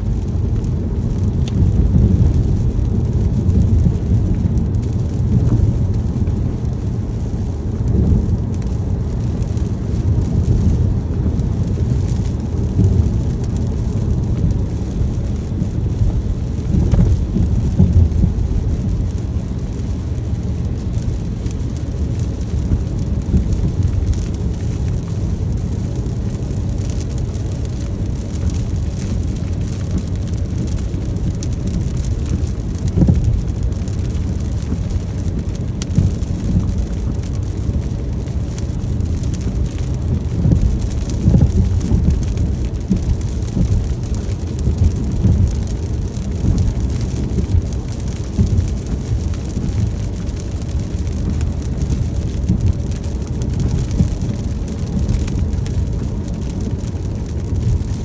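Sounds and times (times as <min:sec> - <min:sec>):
deep rumble: 0:00.0 - 0:58.0
steady rain: 0:00.0 - 0:58.0.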